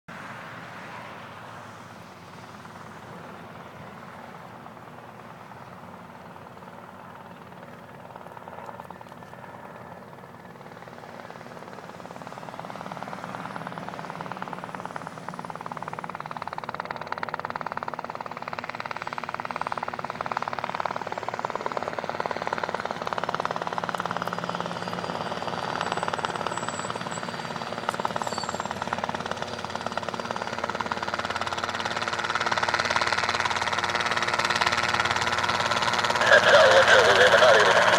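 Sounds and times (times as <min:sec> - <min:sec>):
helicopter rotor chop and engine: 0:00.1 - 0:37.9.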